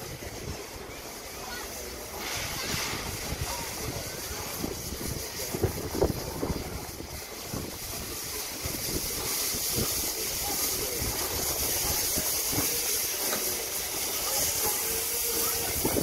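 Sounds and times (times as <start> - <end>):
low rumble of train: 0.0 - 16.0
steam hissing: 0.0 - 16.0.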